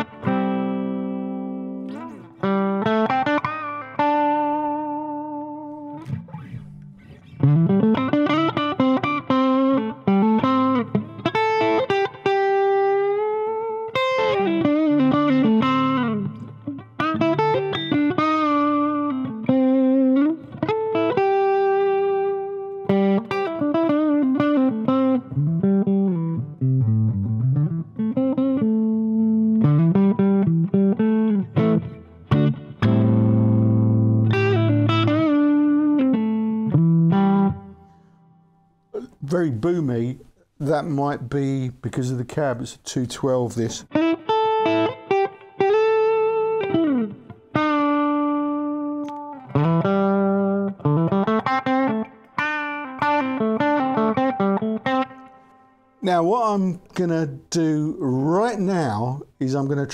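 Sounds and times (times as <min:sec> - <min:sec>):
electric guitar with bends: 0:00.0 - 0:39.7, 0:43.8 - 0:59.8.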